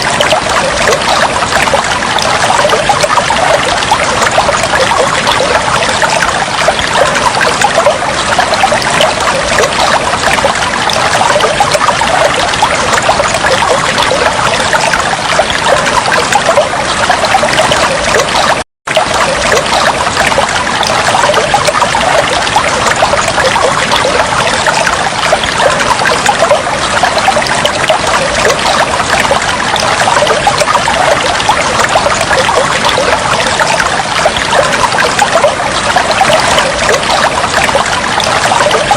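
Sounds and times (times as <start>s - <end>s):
trickling water: 0.0s - 38.9s.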